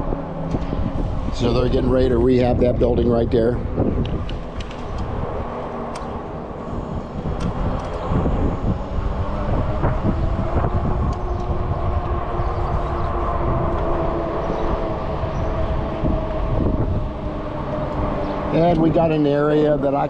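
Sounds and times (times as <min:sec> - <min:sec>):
low wind: 0:00.0 - 0:20.0
road rumble: 0:00.0 - 0:20.0
steady hum: 0:00.0 - 0:20.0.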